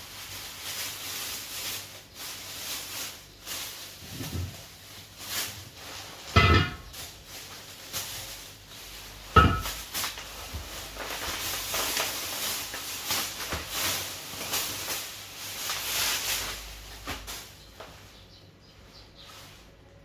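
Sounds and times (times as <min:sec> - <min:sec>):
rustling and scraping: 0:00.0 - 0:20.0.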